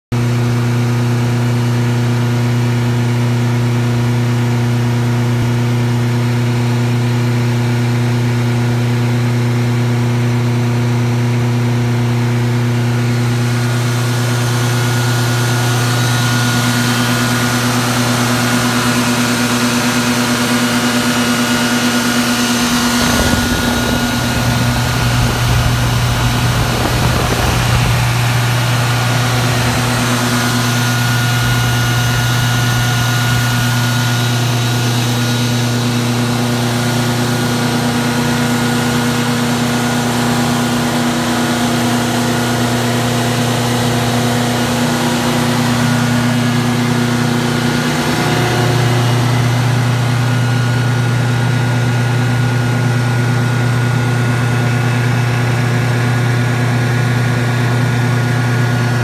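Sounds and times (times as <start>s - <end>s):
generator engine humming: 0.2s - 59.0s.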